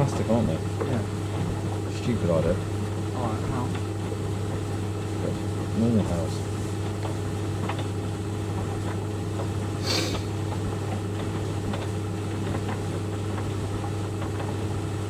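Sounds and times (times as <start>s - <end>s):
tumble dryer motor hum: 0.0s - 15.0s.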